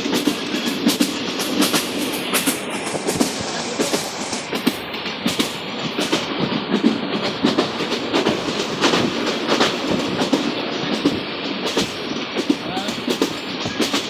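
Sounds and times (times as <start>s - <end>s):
rumble of moving carriages: 0.0s - 14.0s
train wheels clacking on rails: 0.0s - 14.0s.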